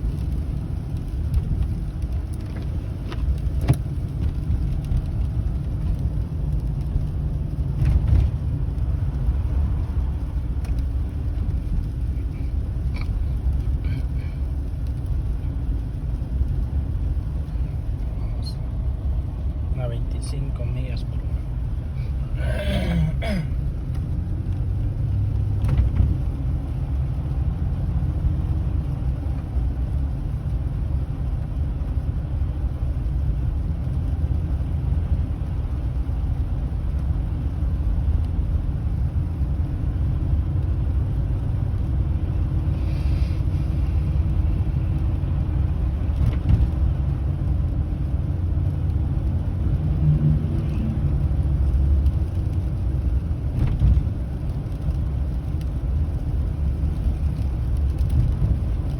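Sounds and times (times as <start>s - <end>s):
car engine rumble: 0.0s - 58.9s
tyre noise on road: 0.0s - 58.9s.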